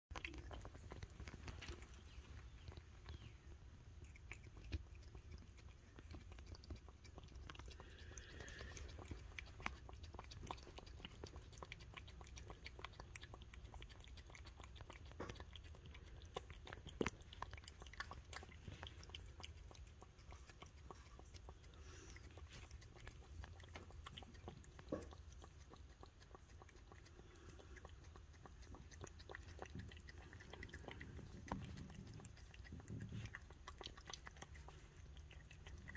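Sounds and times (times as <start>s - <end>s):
cat licking and chewing food: 0.1s - 35.9s.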